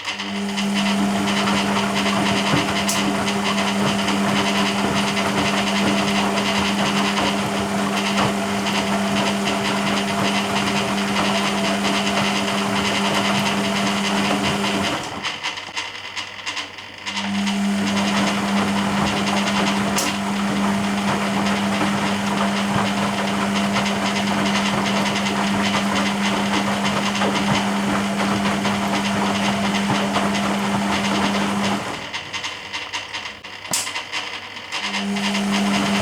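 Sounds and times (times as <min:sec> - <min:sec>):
washing machine motor humming: 0:00.0 - 0:15.8, 0:17.1 - 0:36.0
water churning in washing machine: 0:00.0 - 0:36.0.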